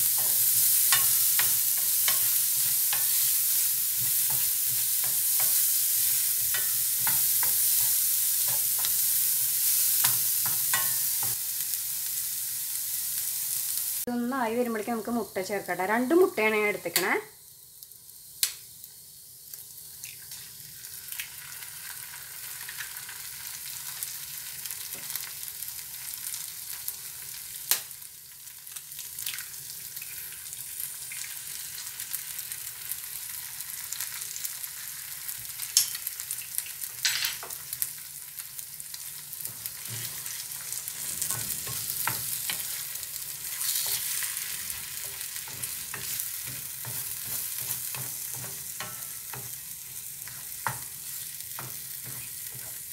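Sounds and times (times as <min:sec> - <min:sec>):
oil sizzling in a frying pan: 0:00.0 - 0:52.9.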